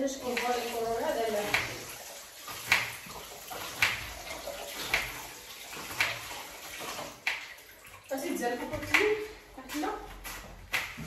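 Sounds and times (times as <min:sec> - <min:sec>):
water splashing in a bowl: 0:00.0 - 0:09.4.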